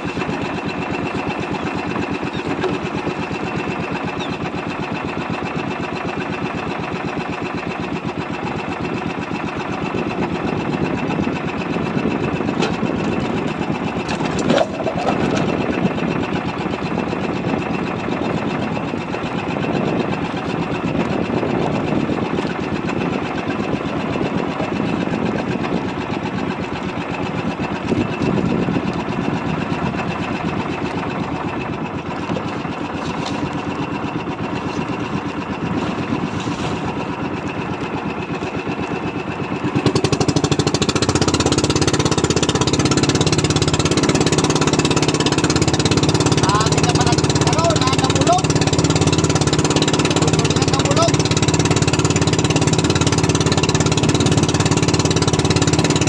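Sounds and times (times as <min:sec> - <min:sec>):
boat engine knocking: 0:00.0 - 0:56.0.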